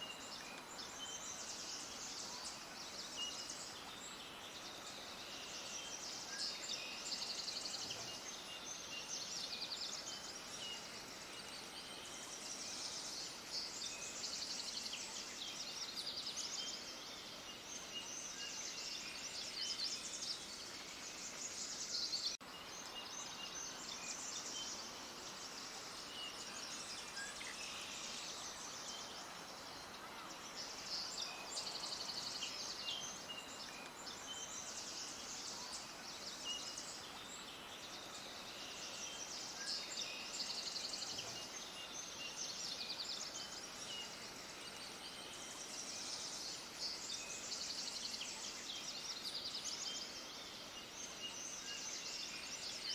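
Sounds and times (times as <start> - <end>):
many small birds chirping: 0.0 - 52.9.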